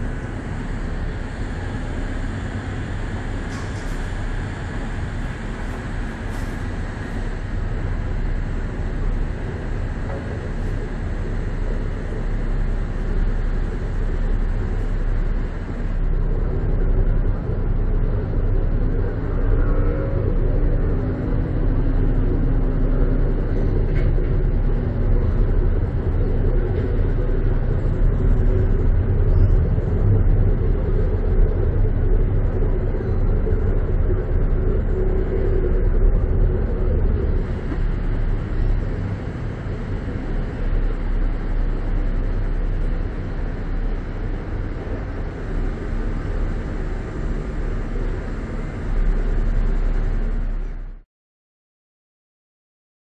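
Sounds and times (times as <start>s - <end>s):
faint wavering hum: 0.0s - 51.0s
low engine rumble: 0.0s - 51.0s.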